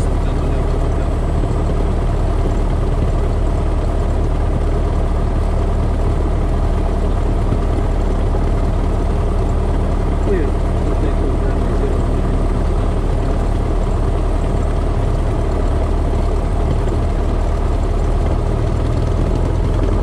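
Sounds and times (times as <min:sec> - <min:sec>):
propeller engine idling: 0:00.0 - 0:20.0.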